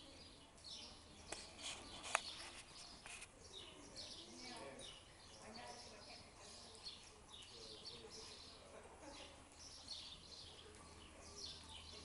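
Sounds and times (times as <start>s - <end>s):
faint small birds chirping: 0.0s - 12.0s.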